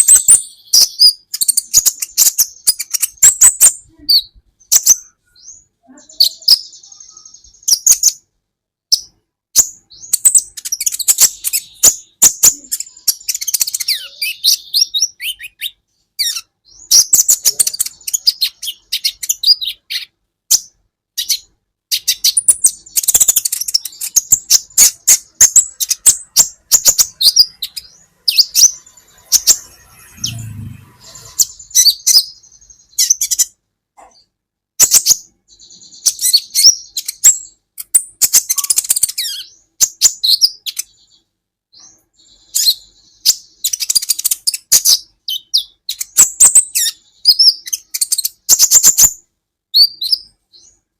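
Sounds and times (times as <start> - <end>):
sunbird high chirps: 0.0 - 8.2, 8.9 - 33.6, 34.8 - 41.2, 41.8 - 50.8.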